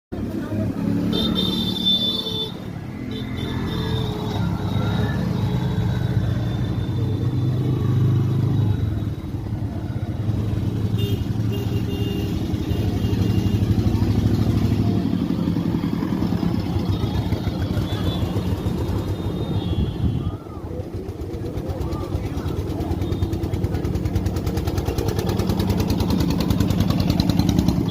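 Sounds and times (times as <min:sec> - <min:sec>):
vehicle engine running: 0:04.5 - 0:19.8, 0:20.4 - 0:27.9.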